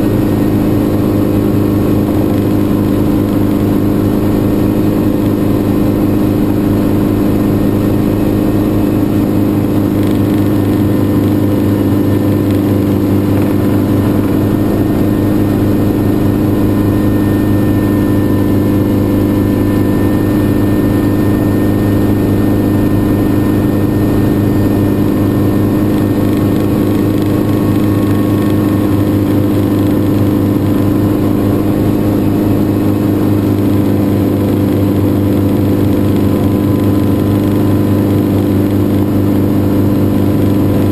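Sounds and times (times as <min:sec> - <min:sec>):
helicopter engine and rotors: 0:00.0 - 0:40.9.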